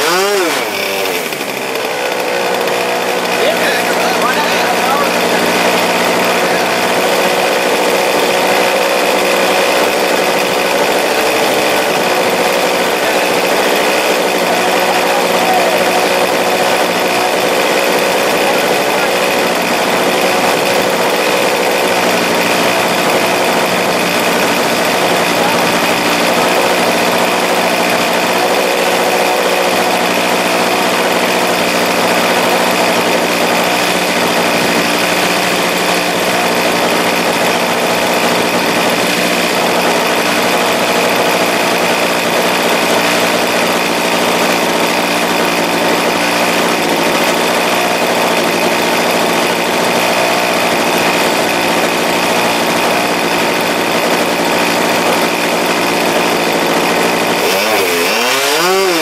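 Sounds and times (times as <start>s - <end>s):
model plane engine idling: 0.0s - 59.0s.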